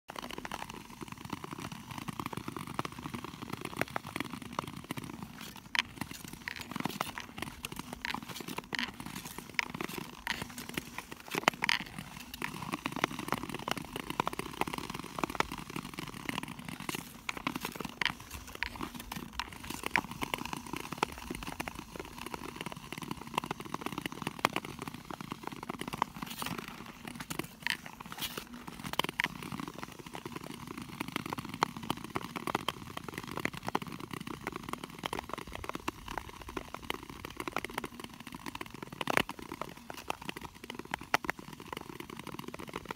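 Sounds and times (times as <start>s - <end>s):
ice clicking and crackling: 0.1s - 42.9s
skate blades scraping ice: 0.1s - 42.9s.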